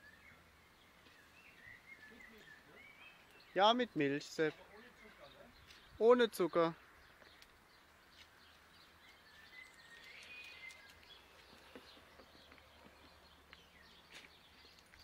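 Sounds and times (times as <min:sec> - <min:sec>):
faint bird chirps: 0:00.0 - 0:06.1, 0:07.0 - 0:15.0.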